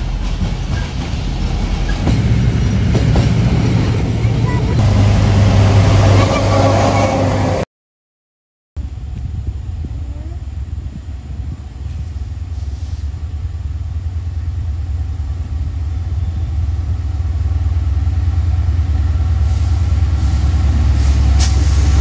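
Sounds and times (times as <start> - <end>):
train rumble: 0.0 - 7.6, 8.8 - 22.0.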